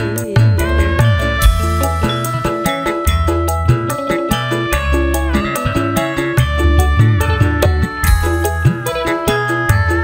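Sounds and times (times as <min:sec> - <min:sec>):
bass line: 0:00.0 - 0:10.0
keyboard melody: 0:00.0 - 0:10.0.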